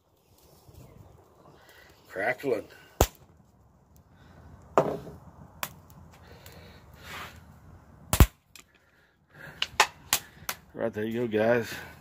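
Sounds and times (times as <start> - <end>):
wood fire crackling and popping: 0.0 - 11.6.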